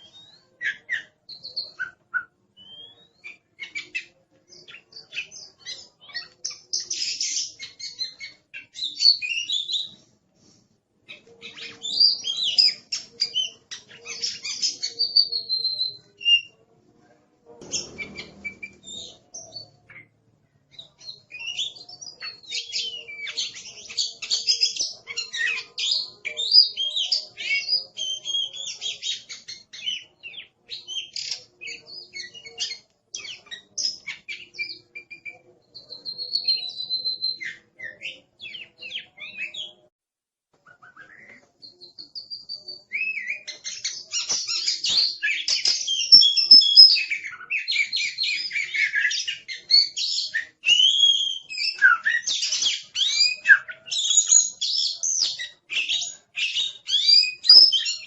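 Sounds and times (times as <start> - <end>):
bird singing whistles and chirps: 0.0 - 10.0, 17.6 - 39.8, 40.7 - 58.0.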